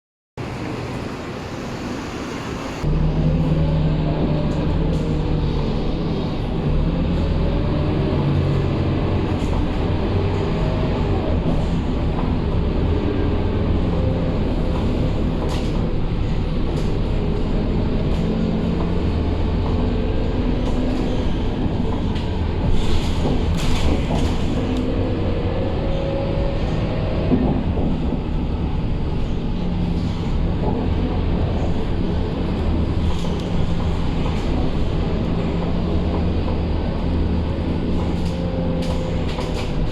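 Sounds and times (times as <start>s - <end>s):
bus diesel engine whining: 0.4s - 39.9s.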